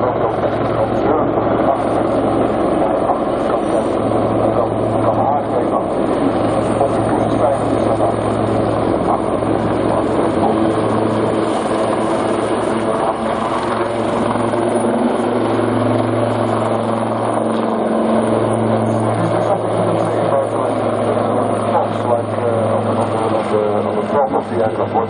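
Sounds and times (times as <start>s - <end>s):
helicopters flying past: 0.0s - 25.0s.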